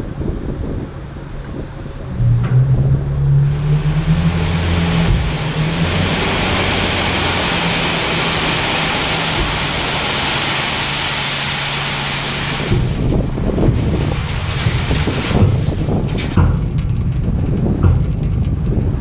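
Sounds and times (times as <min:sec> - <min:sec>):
loud steady rushing noise: 0:00.0 - 0:19.0
diesel engine revving: 0:01.0 - 0:16.8.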